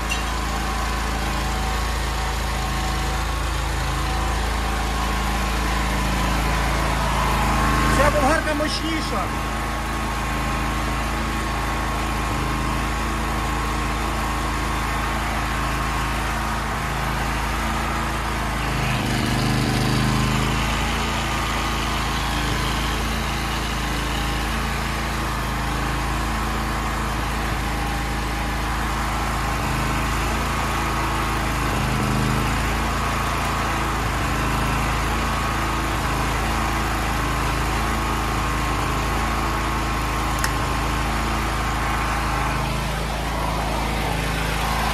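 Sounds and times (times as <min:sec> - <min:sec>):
petrol generator engine running: 0:00.0 - 0:44.9.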